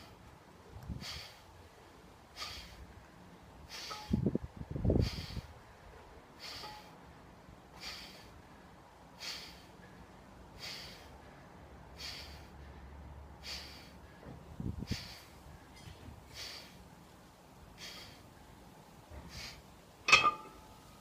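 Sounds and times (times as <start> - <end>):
man's sharp breaths: 0.0 - 19.8.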